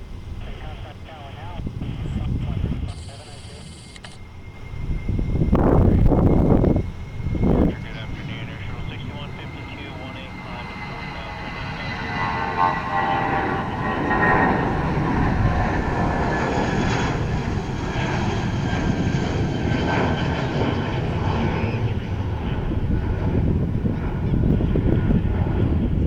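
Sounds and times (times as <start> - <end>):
jet engines rumbling: 0.0 - 26.0
thin engine whine: 0.0 - 26.0.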